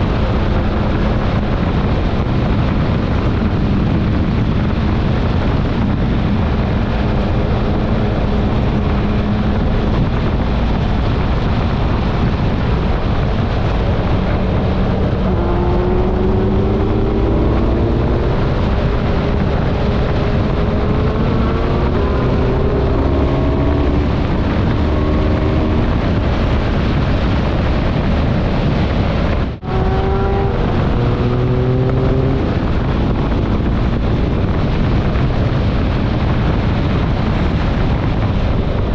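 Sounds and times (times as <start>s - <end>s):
motorcycle engine accelerating: 0.0s - 38.9s
wind noise on microphone: 0.0s - 38.9s.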